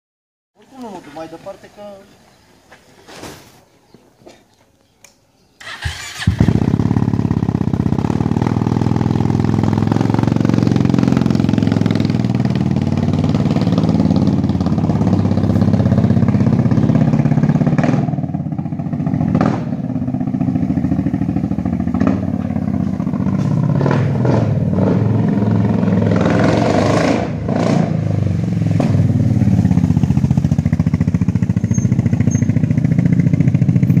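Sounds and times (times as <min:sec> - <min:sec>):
loud scooter engine revving: 0:05.6 - 0:34.0.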